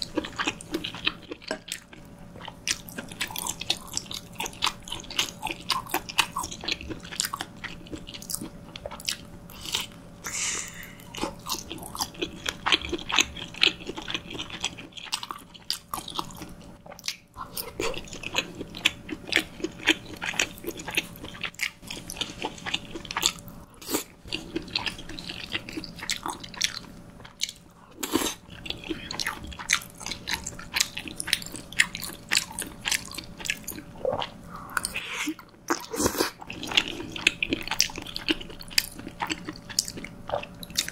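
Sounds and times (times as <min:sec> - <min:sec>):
person chewing pasta: 0:00.0 - 0:40.9.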